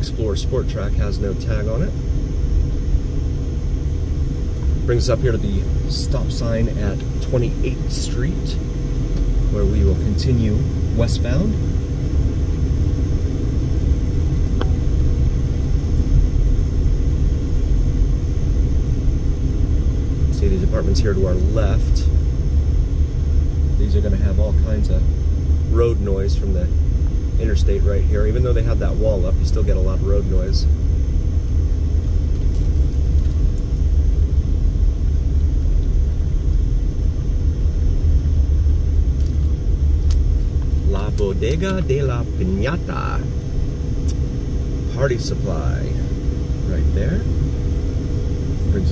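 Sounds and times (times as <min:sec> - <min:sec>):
road and engine rumble in car cabin: 0:00.0 - 0:48.9.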